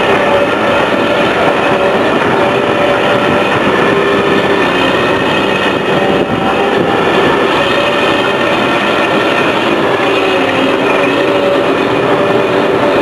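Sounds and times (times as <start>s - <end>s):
heavy machinery noise: 0.0s - 13.0s
squealing tones: 0.0s - 13.0s.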